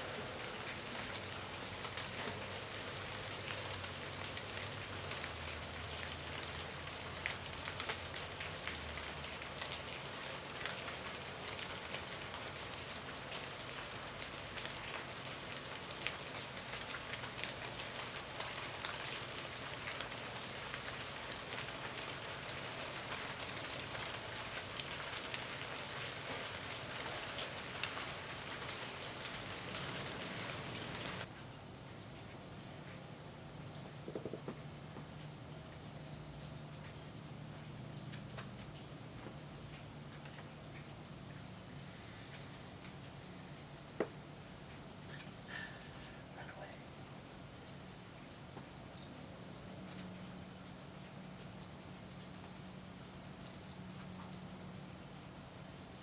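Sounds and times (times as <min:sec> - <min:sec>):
raindrops ticking close by: 0:00.0 - 0:56.0
steady rain: 0:00.0 - 0:56.0.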